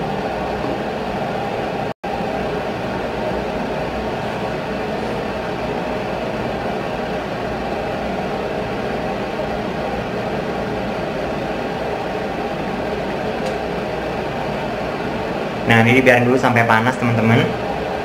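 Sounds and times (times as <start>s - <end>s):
kitchen fan whirring: 0.0s - 18.0s.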